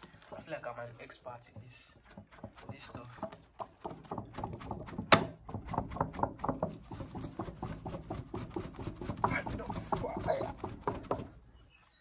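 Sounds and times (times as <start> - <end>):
hand fan flapping: 0.0 - 11.4.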